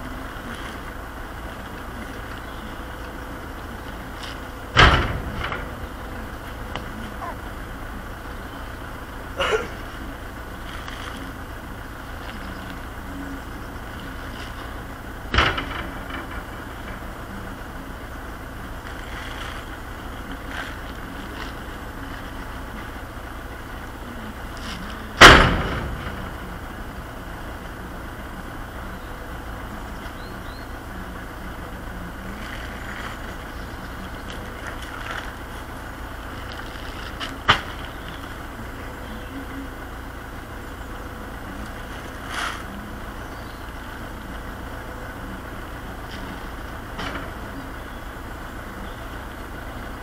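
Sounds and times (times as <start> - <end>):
vehicle engine idling: 0.0 - 50.0.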